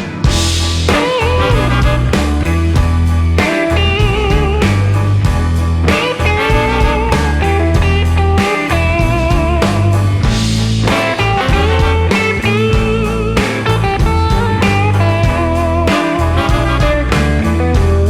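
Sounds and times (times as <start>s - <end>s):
blues rock music: 0.0s - 18.0s.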